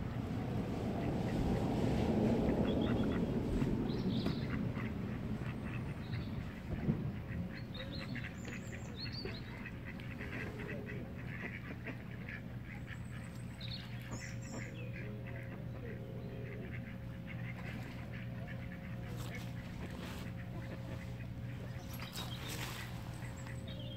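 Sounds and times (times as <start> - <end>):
ducks quacking: 2.4 - 23.9.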